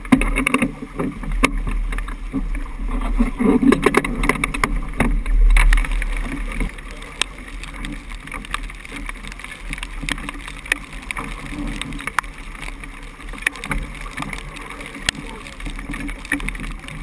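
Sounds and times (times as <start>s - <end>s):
raindrops ticking on camera housing: 0.0s - 17.0s
water rushing past hull: 0.0s - 17.0s.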